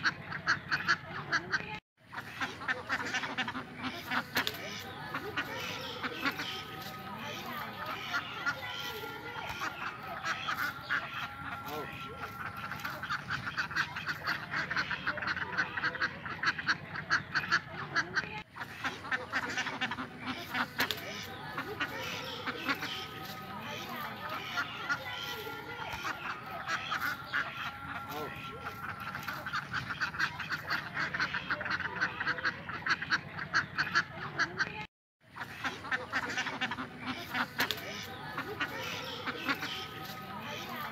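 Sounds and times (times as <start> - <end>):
ducks quacking: 0.0 - 40.9.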